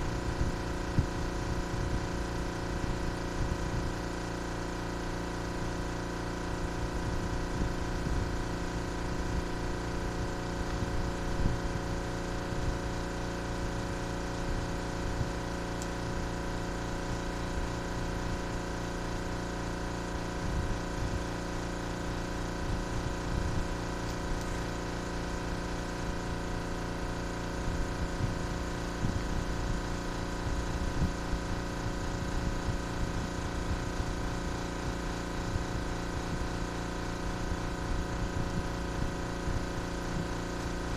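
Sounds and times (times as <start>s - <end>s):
motor humming: 0.0s - 40.9s.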